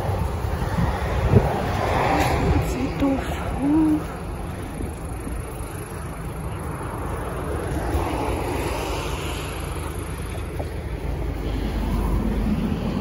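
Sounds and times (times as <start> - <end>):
city traffic rumble: 0.0 - 13.0
wind buffeting microphone: 0.0 - 13.0.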